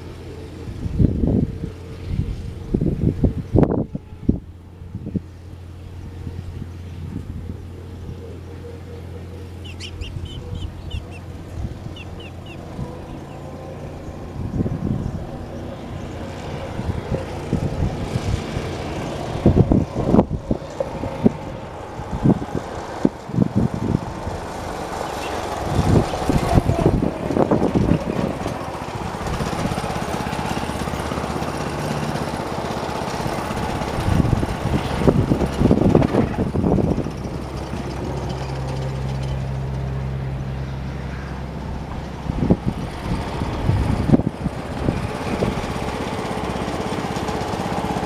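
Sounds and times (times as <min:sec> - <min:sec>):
wind buffeting microphone: 0:00.0 - 0:08.6, 0:09.4 - 0:40.6, 0:41.6 - 0:48.0
lawn tractor engine running: 0:00.0 - 0:48.0.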